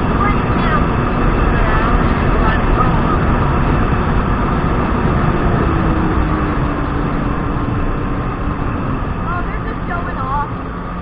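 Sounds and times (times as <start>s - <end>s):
jet ski engine and water rush: 0.0s - 11.0s.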